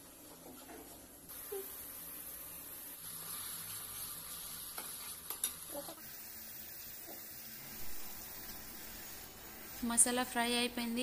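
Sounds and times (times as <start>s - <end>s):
paste sizzling in hot oil: 1.3s - 11.0s.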